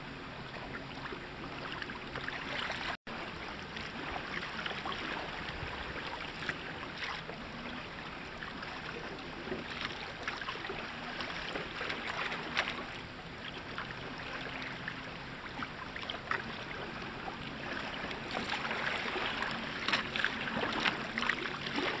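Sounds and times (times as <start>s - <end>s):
small waves slapping: 0.0s - 22.0s
water splashing against hull: 0.0s - 22.0s.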